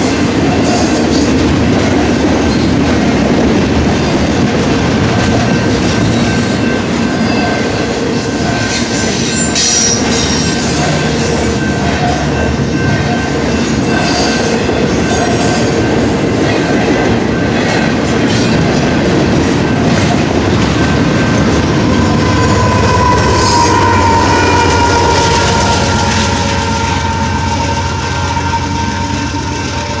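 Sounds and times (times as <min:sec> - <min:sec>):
diesel locomotive drone: 0:00.0 - 0:30.0
freight train wheels on rails: 0:00.0 - 0:30.0
wheel flanges squealing: 0:01.9 - 0:30.0.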